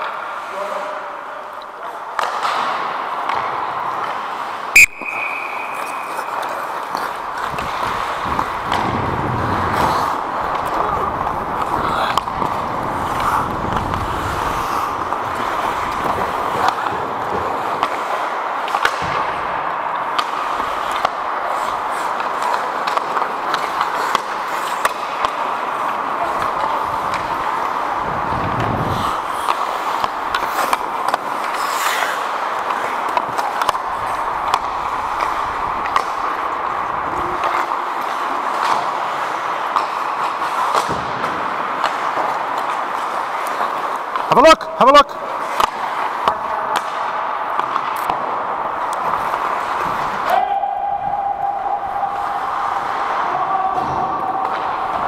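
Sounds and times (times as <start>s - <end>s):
hockey sticks and puck clicking: 1.5s - 55.0s
skate blades scraping on ice: 2.1s - 55.0s.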